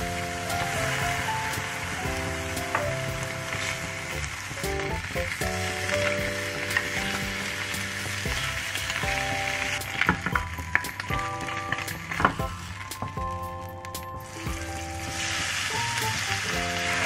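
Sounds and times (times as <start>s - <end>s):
ham sizzling in a pan: 0.0s - 17.0s.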